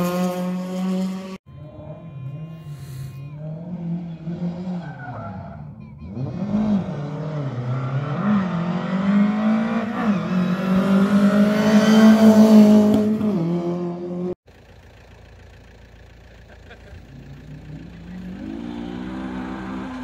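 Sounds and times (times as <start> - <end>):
rally car engine revving: 0.0 - 14.4, 16.4 - 20.0.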